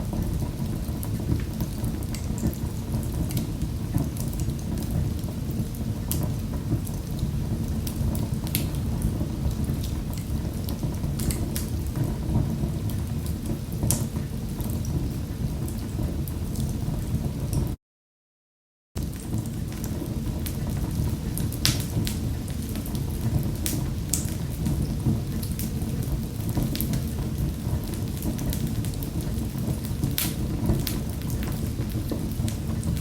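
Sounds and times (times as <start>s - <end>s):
fire crackling and popping: 0.0s - 17.8s, 19.0s - 33.0s.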